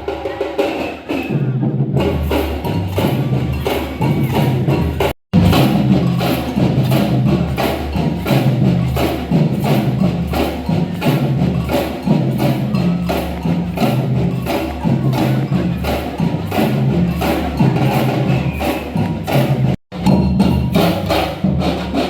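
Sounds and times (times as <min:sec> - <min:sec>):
samba band playing: 0:00.0 - 0:22.0.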